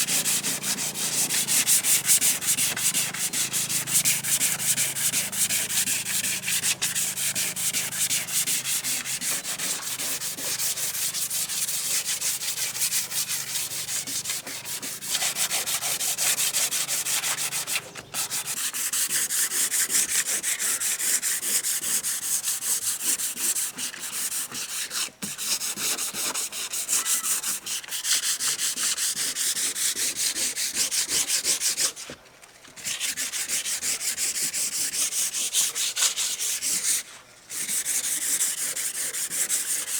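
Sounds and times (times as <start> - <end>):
sandpaper rubbing: 0.0 - 32.2, 32.8 - 39.9.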